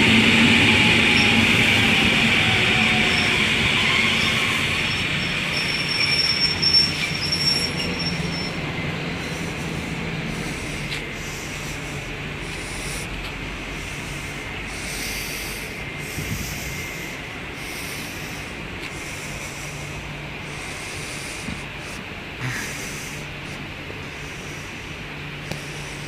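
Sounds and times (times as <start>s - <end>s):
train electrical hum: 0.0s - 26.0s
broad hiss: 4.2s - 26.0s.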